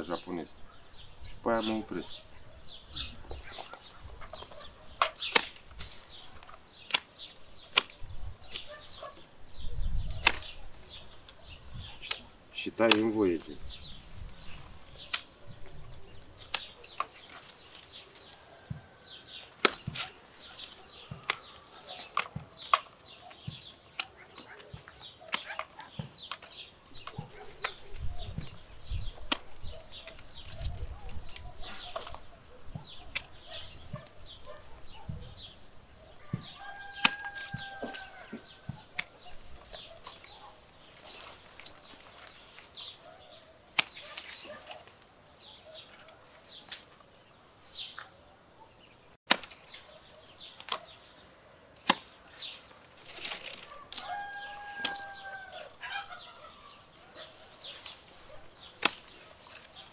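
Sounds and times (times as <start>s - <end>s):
pruning shears snipping branches: 3.2s - 9.3s, 10.1s - 34.8s, 36.2s - 48.1s, 49.3s - 56.0s, 57.0s - 59.9s.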